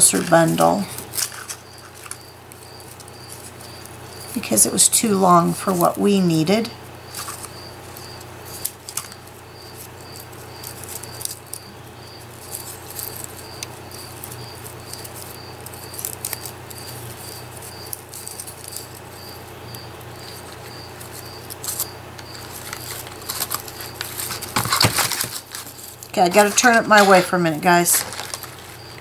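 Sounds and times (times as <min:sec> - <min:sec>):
dried stems and paper rustling: 0:00.0 - 0:29.0.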